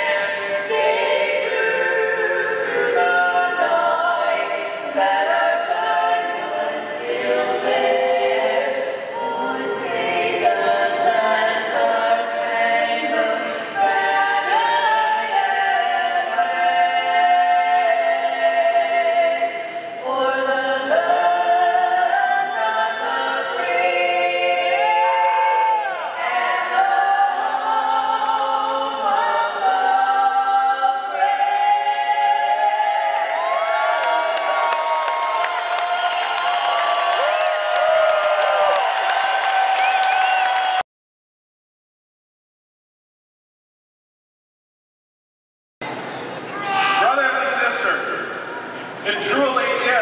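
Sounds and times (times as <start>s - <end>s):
choir singing long notes: 0.0s - 40.8s.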